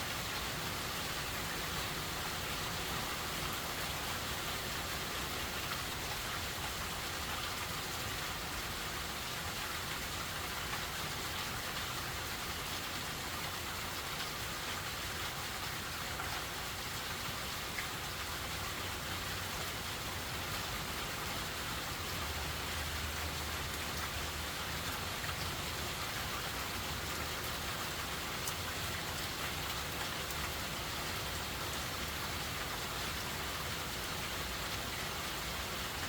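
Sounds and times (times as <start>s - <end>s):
rain pattering: 0.0s - 36.0s.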